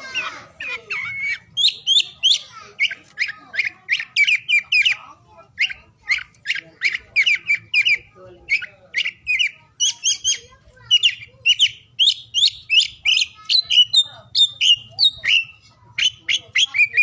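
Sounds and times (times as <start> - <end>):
bird whistles and chirps: 0.0 - 5.0, 5.6 - 17.0.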